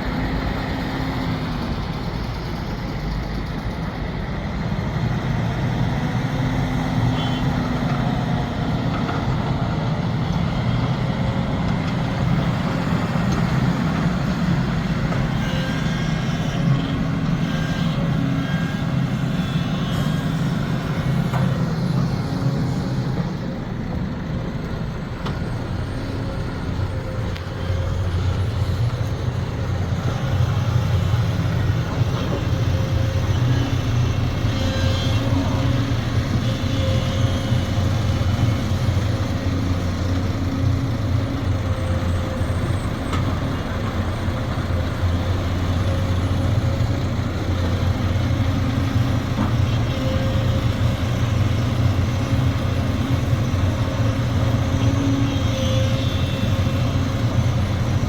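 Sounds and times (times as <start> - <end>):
heavy diesel excavator engine: 0.0 - 58.0.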